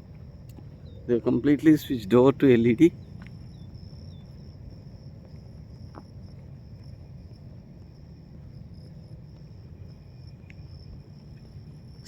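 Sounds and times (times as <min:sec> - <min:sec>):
insects trilling: 0:00.0 - 0:12.0
low background rumble: 0:00.0 - 0:12.0.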